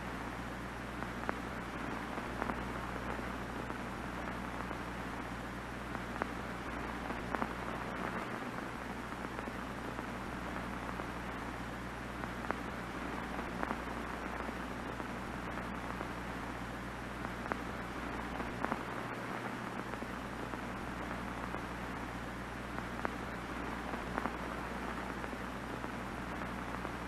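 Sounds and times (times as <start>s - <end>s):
small crackles: 0.0s - 27.0s
television static: 0.0s - 27.0s.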